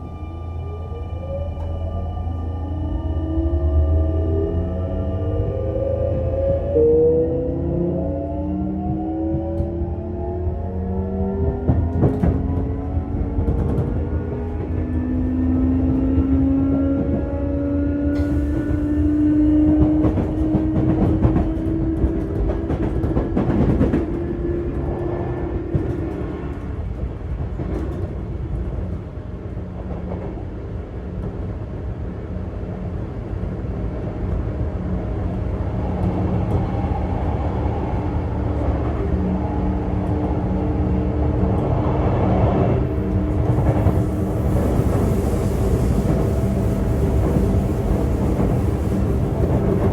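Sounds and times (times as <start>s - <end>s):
train running rumble: 8.8s - 49.9s.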